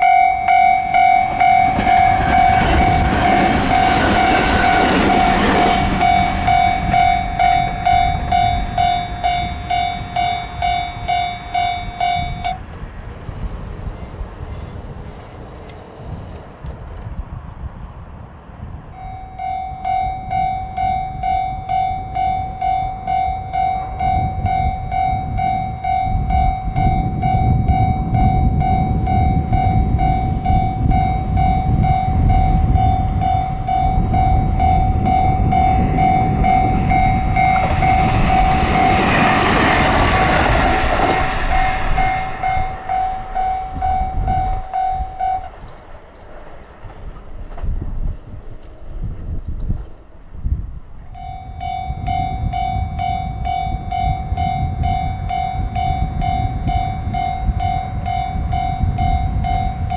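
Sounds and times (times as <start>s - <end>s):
level-crossing warning bell ringing: 0.0s - 12.8s, 19.0s - 49.3s, 50.8s - 59.9s
train rumbling past: 0.0s - 59.9s.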